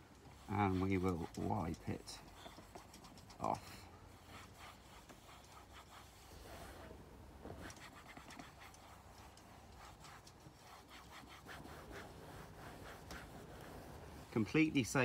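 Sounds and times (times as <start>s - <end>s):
cloth rubbing on leather: 0.3s - 15.0s.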